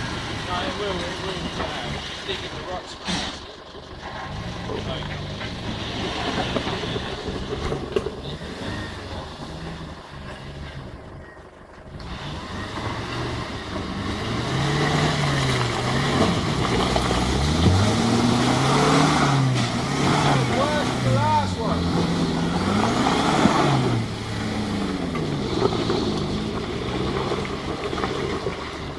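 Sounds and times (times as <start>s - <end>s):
off-road vehicle engine revving: 0.0s - 28.9s.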